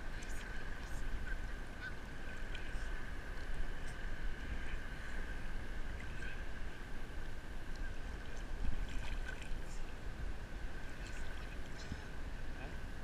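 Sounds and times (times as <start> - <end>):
water sloshing and splashing: 0.0 - 6.8, 7.6 - 13.0
waves rumbling: 0.0 - 13.0.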